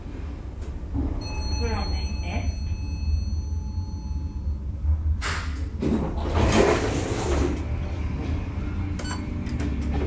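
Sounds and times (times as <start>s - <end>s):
elevator hum: 0.0s - 10.0s.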